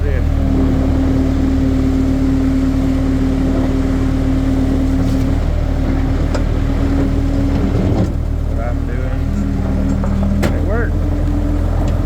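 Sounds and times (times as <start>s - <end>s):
skid steer engine running: 0.0s - 12.0s.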